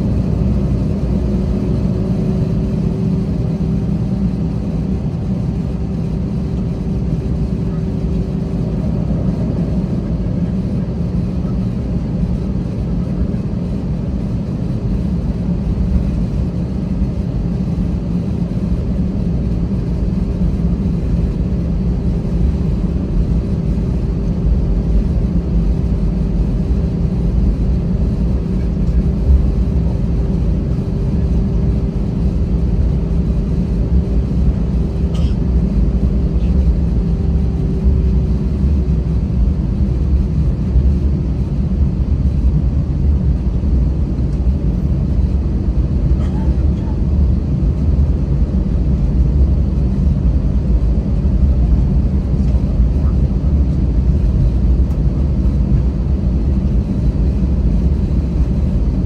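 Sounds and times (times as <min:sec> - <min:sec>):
airplane cabin jet engine hum: 0:00.0 - 0:59.0.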